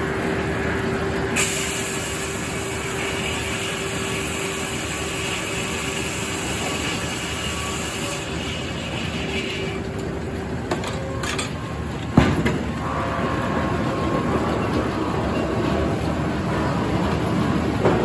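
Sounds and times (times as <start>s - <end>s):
circular sawmill running: 0.0s - 18.0s.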